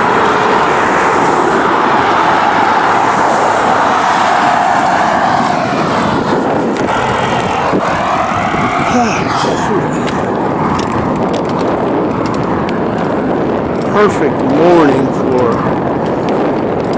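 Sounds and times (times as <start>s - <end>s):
cars passing by: 0.0s - 16.9s
road traffic noise: 0.0s - 16.9s.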